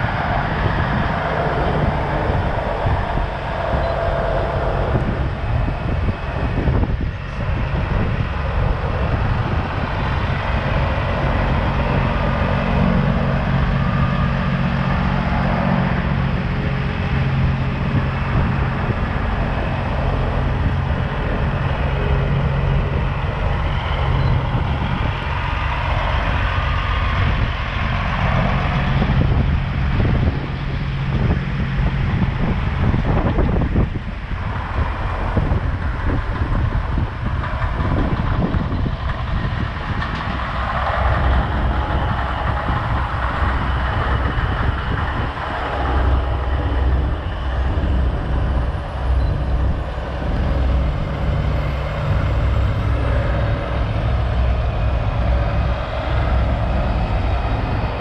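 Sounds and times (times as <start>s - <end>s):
diesel engines droning: 0.0s - 58.0s
trucks passing on gravel: 0.0s - 58.0s.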